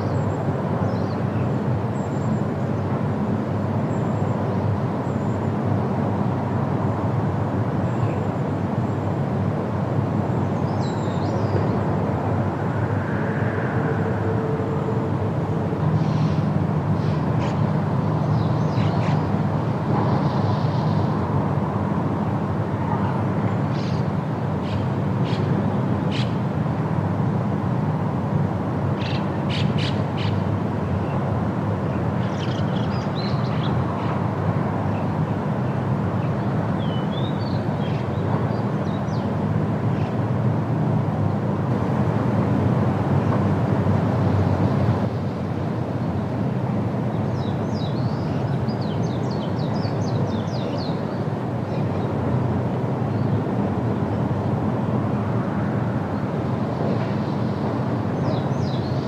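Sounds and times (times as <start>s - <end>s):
wind through foliage: 0.0s - 59.0s.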